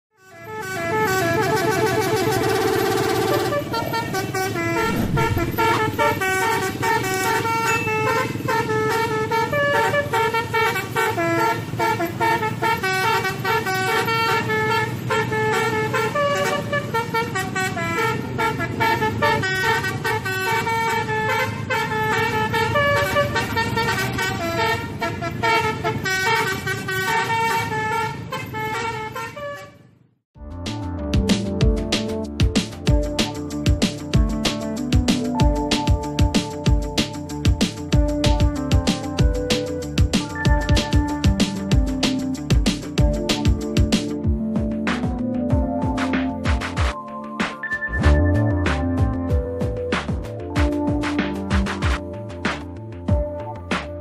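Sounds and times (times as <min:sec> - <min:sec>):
bus musical horn tune: 0:00.2 - 0:30.1, 0:31.8 - 0:54.0.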